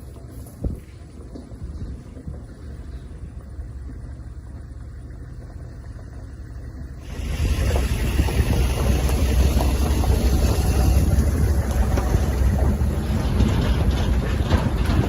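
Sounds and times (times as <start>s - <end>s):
vehicle rumbling on road: 0.0s - 15.0s.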